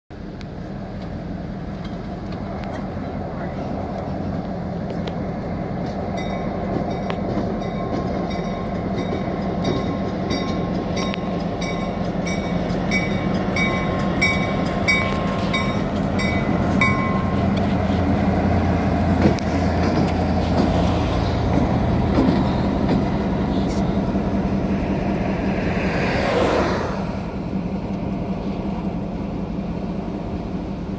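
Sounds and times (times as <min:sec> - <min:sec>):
diesel locomotive engine drone: 0:00.1 - 0:30.9
train rushing past: 0:00.5 - 0:30.9.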